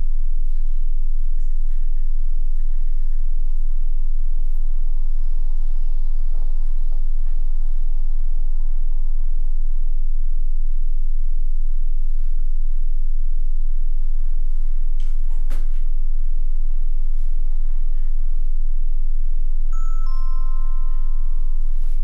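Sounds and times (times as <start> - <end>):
loud steady low hum: 0.0 - 22.0.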